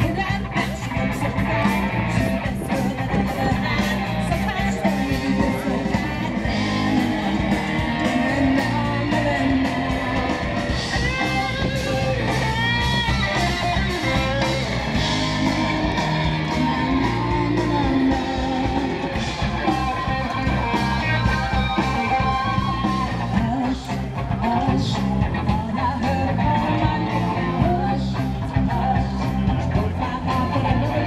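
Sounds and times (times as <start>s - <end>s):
rock song with guitar and vocals: 0.0s - 31.0s.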